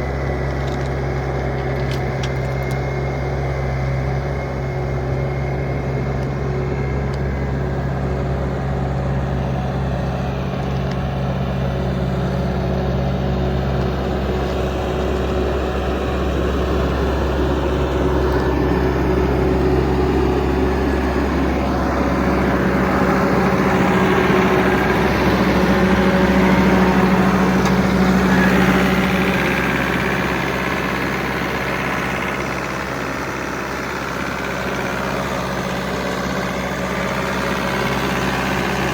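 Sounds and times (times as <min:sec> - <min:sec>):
diesel skid steer running: 0:00.0 - 0:38.9.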